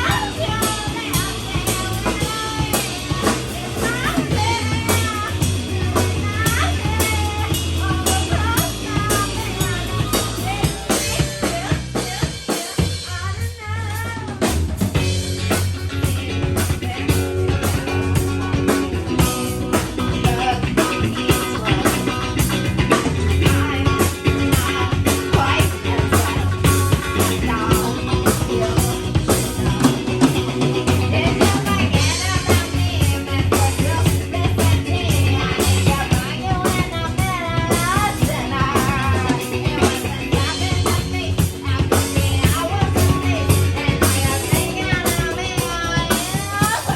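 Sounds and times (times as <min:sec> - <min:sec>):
bass: 0:00.0 - 0:46.9
drum kit beat: 0:00.0 - 0:46.9
guitar: 0:00.0 - 0:46.9.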